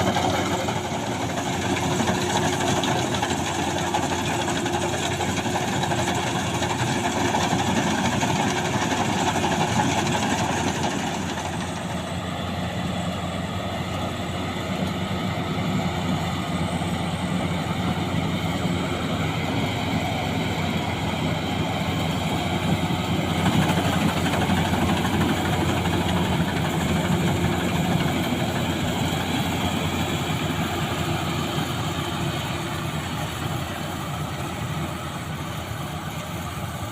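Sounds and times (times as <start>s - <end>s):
combine harvester engine running: 0.0s - 36.9s.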